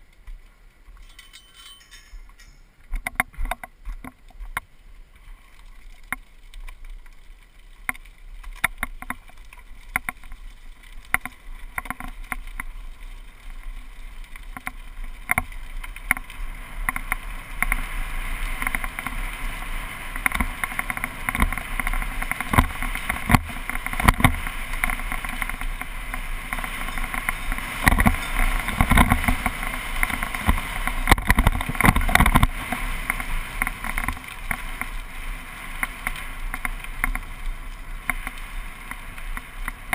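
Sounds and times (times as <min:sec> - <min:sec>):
bike tyres on gravel: 0:00.0 - 0:39.9.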